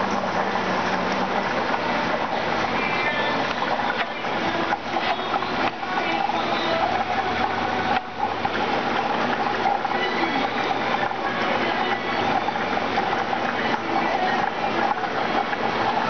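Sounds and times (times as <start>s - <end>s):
aquarium pump machine hum: 0.0s - 16.0s
aquarium water noise: 0.0s - 16.0s.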